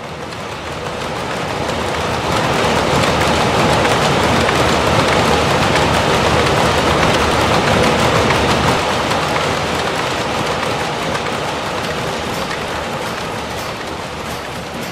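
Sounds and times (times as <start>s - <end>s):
power looms clattering: 0.0s - 14.9s.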